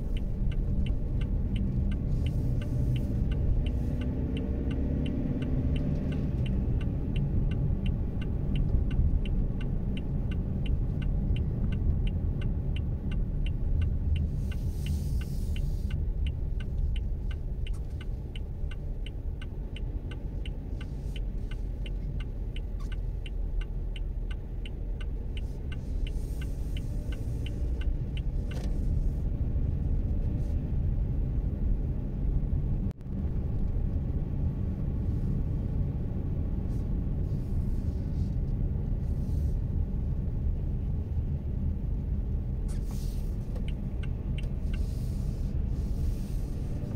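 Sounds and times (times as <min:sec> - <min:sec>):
road and engine rumble: 0:00.0 - 0:46.9
turn signal ticking: 0:00.0 - 0:46.9.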